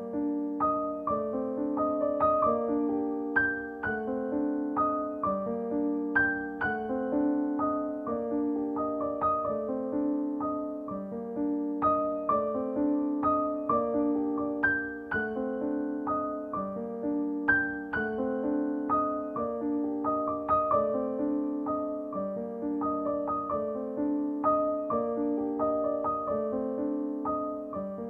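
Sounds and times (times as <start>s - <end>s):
gentle piano melody: 0.0s - 28.0s.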